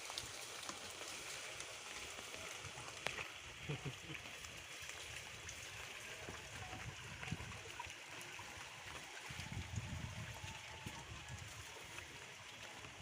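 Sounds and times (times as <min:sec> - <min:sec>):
steady rain: 0:00.0 - 0:13.0
water running and trickling: 0:00.0 - 0:13.0.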